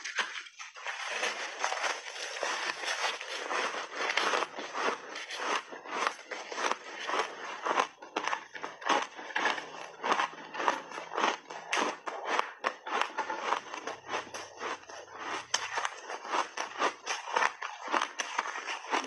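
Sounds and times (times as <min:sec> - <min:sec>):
chewing crunchy frozen berries: 0:00.0 - 0:19.0.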